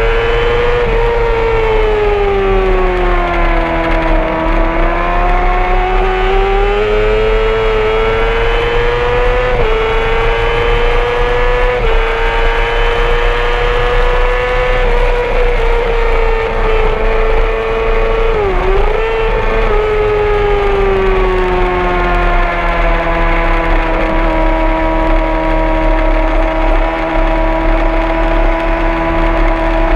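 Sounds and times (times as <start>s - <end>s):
motorcycle engine whining at high revs: 0.0s - 29.9s.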